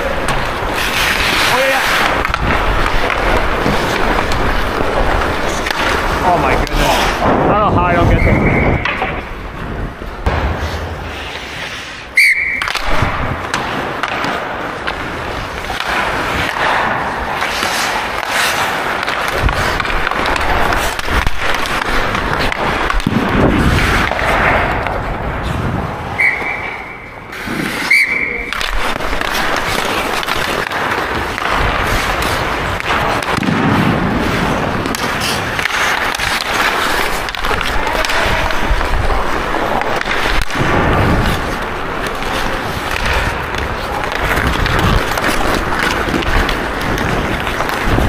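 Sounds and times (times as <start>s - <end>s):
hockey sticks and puck clacking: 0.0s - 48.0s
ice skates scraping on ice: 0.0s - 48.0s.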